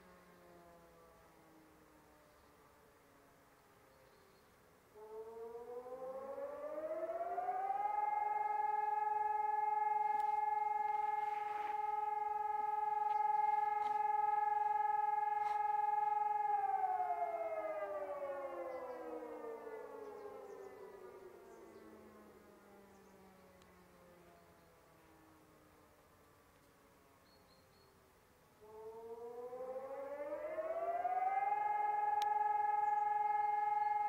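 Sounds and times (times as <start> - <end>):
civil defence siren long tone: 0.0 - 27.4, 28.0 - 34.0.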